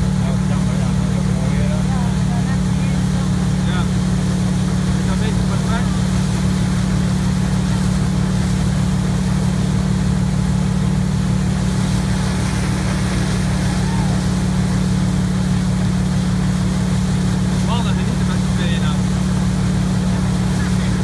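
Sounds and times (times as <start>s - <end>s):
boat engine droning: 0.0s - 21.0s
wake and spray rushing: 0.0s - 21.0s.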